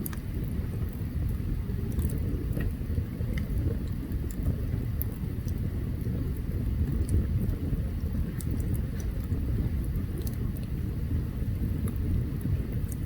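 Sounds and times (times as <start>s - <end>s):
campfire crackling and popping: 0.0s - 13.0s
low fire rumble: 0.0s - 13.0s.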